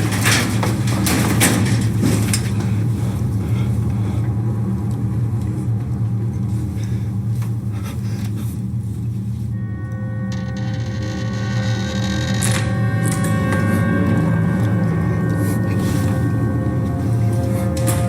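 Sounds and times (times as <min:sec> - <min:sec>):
low rumbling drone: 0:00.0 - 0:18.0.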